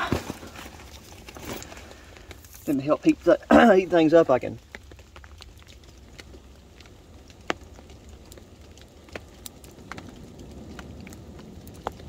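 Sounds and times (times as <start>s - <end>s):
campfire crackling and popping: 0.0s - 12.0s
light rain patter: 0.0s - 12.0s.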